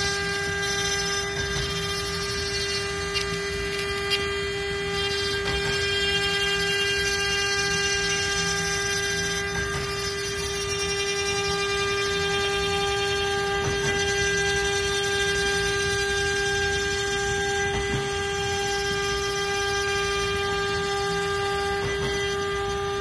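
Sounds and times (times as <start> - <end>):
end mill grinding chip: 0.0 - 23.0
spindle motor humming: 0.0 - 23.0.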